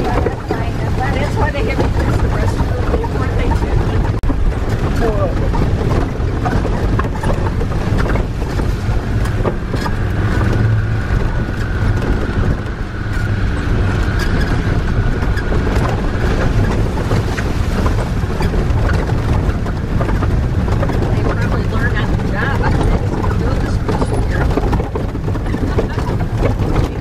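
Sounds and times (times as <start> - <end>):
vehicle engine running: 0.0 - 27.0
water splashing against vehicle: 0.0 - 27.0.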